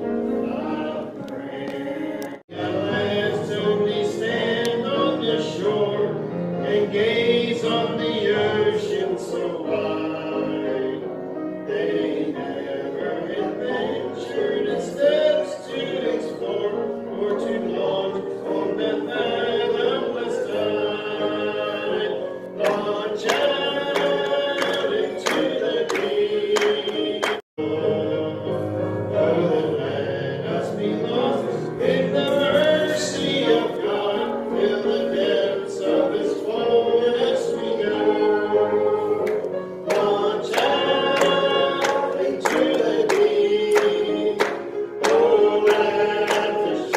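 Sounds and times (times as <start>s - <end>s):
congregation singing: 0.0s - 46.9s.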